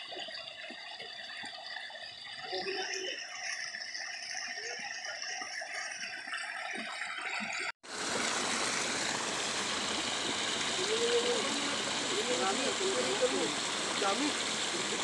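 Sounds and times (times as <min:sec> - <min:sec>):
steady rush of water: 0:00.0 - 0:15.0
stream water splashing and trickling: 0:00.0 - 0:15.0.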